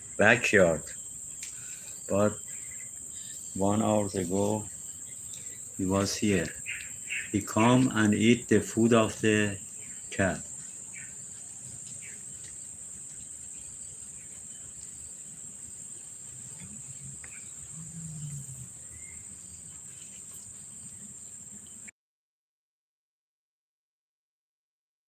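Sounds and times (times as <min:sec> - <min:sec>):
high-pitched insect drone: 0:00.0 - 0:21.8
faint outdoor background noise: 0:00.0 - 0:21.9.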